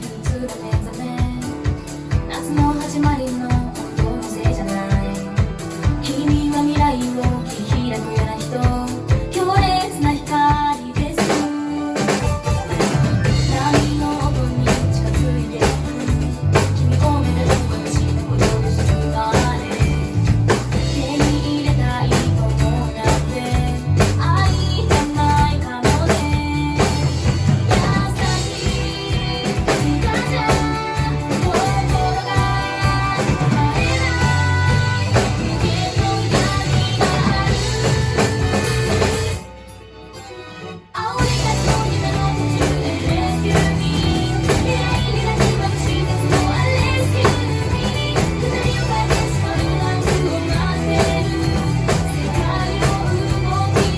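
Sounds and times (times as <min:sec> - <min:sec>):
live drum kit: 0:00.0 - 0:39.5, 0:41.0 - 0:53.9
pop-rock song with female singer: 0:00.0 - 0:39.8, 0:40.9 - 0:53.9.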